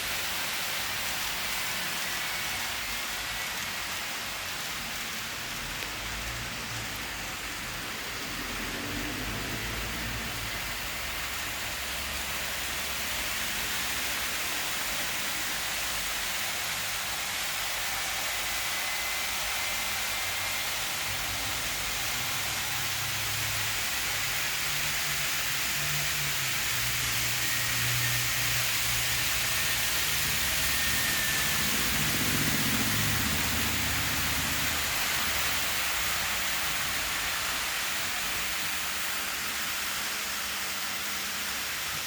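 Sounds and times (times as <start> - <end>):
model train hum: 0.0 - 42.0
steady hiss: 0.0 - 42.0.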